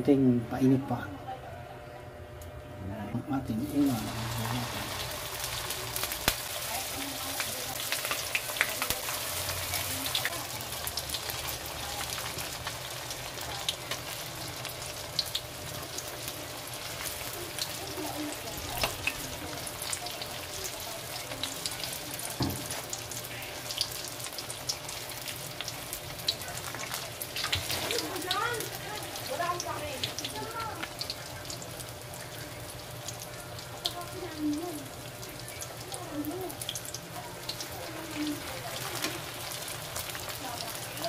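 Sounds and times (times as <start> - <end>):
spring rolls sizzling in oil: 3.5 - 41.0.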